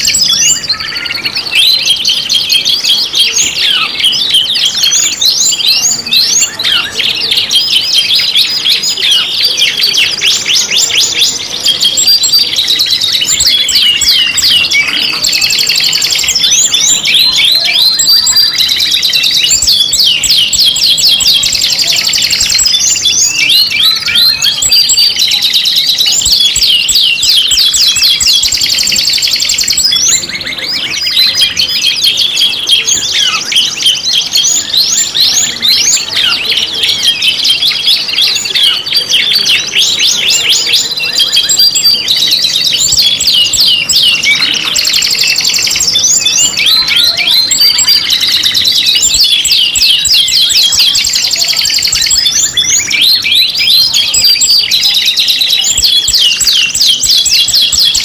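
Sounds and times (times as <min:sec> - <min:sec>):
canaries singing: 0:00.0 - 0:58.0.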